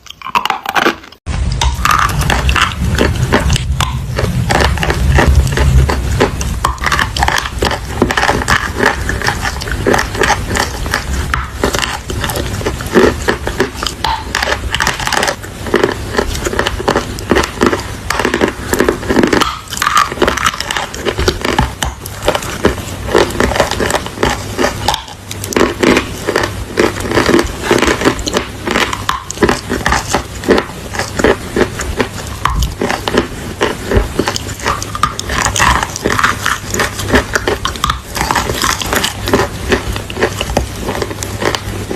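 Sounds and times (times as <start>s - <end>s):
chalk and clay being chewed: 1.5s - 41.9s.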